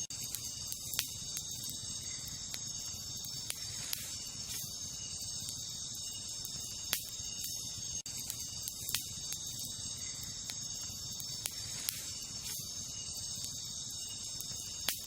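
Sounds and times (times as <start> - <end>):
campfire pops and crackles: 0.0 - 15.0
crickets chirring: 0.0 - 15.0.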